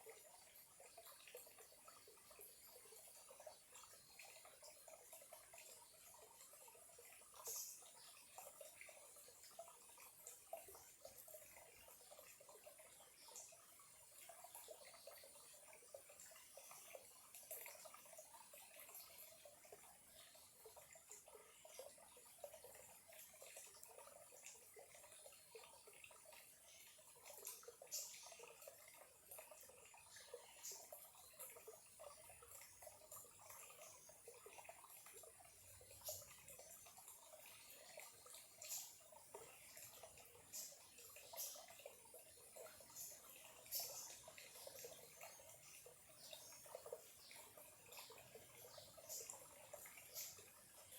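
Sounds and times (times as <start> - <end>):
stream trickling: 0.0 - 50.9
water splashes: 4.1 - 50.9.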